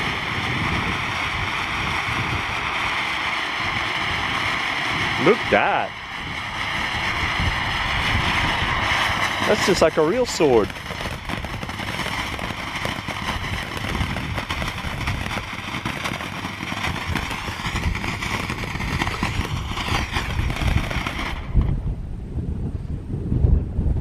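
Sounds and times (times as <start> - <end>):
firework hissing and crackling: 0.0 - 22.0.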